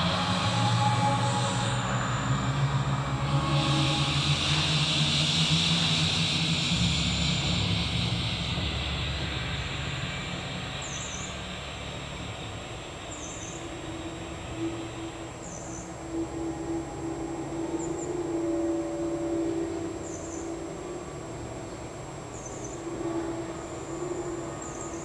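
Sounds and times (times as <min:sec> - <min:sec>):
hiss: 0:00.0 - 0:25.0
low electronic drone: 0:00.0 - 0:25.0.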